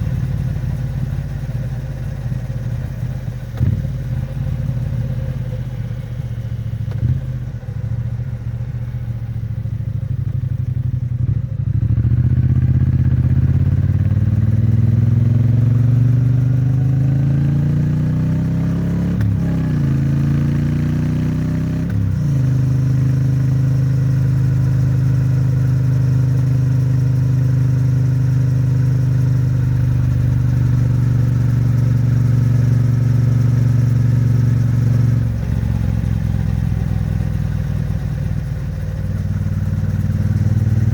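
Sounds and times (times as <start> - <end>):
motorcycle exhaust accelerating: 0.0 - 40.9.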